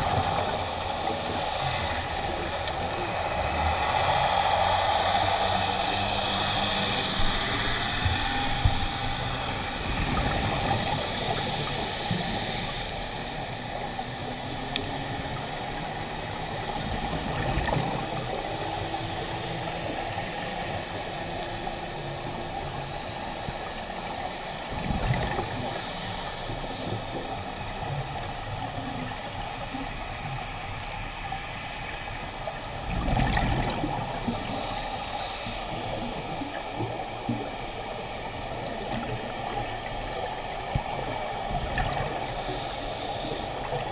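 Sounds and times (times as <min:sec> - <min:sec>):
exhaled bubbles gurgling: 0:00.0 - 0:30.4, 0:32.1 - 0:43.9
steady underwater hiss: 0:00.0 - 0:43.9.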